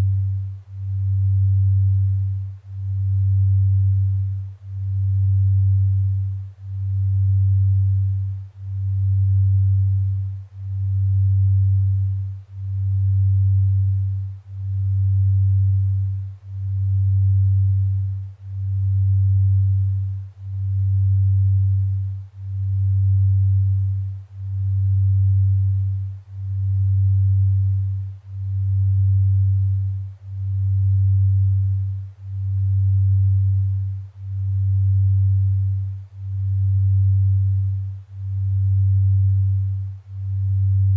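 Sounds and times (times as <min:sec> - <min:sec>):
low pulsing binaural tone: 0:00.0 - 0:40.9.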